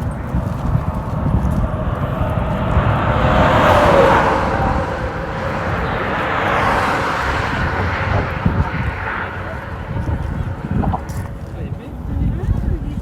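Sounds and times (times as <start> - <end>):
steady low rumble: 0.0 - 13.0
vehicle passing: 0.0 - 13.0.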